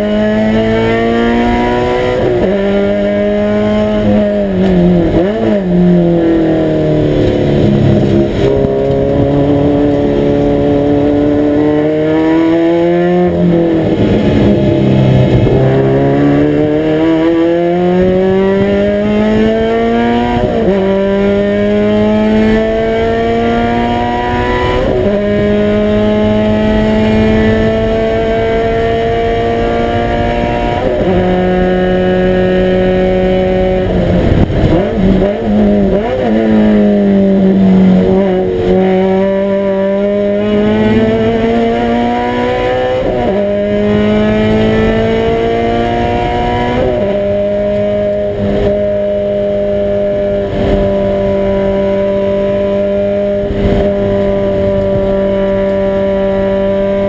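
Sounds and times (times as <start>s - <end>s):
race car engine accelerating: 0.0s - 57.0s
engine blips: 1.2s - 57.0s.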